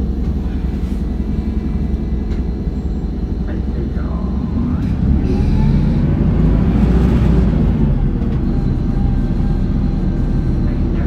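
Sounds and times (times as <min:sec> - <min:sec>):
bus diesel engine droning: 0:00.0 - 0:11.0
road rumble: 0:00.0 - 0:11.0.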